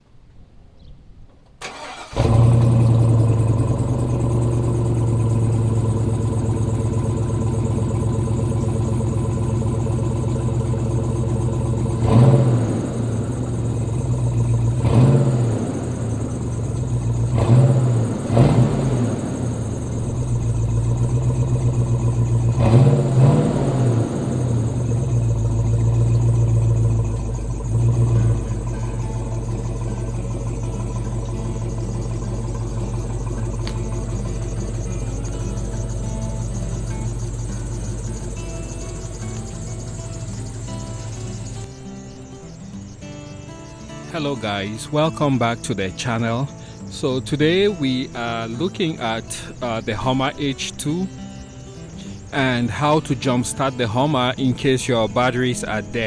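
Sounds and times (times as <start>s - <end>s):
engine cranking and starting: 1.4s - 56.0s
engine throttle blips: 1.5s - 56.0s
engine idling: 1.6s - 56.0s.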